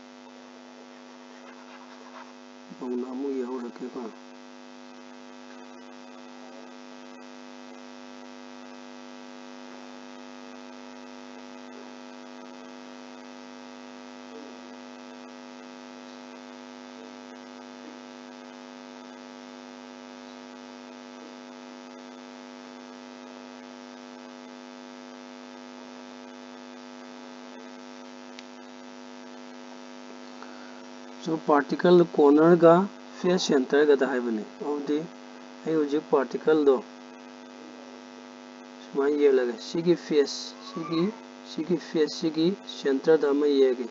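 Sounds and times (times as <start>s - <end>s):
electrical mains hum: 0.0s - 43.9s.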